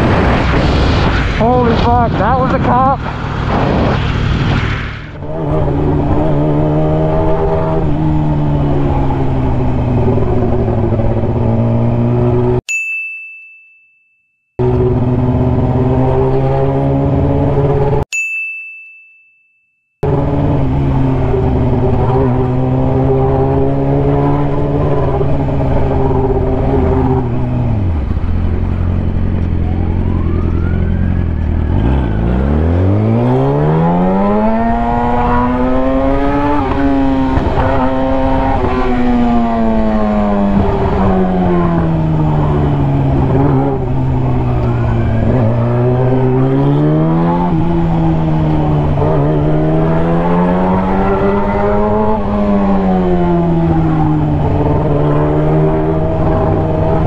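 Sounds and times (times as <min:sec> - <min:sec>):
motorcycle engine revving: 0:05.1 - 0:12.6, 0:14.6 - 0:18.0, 0:20.0 - 0:57.0.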